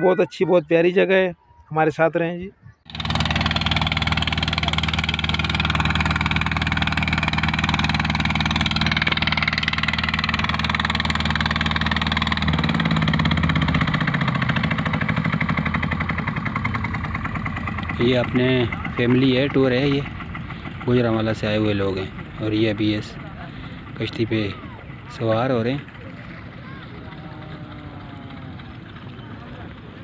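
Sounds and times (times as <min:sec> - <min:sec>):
motorboat engine idling: 0:02.8 - 0:30.0.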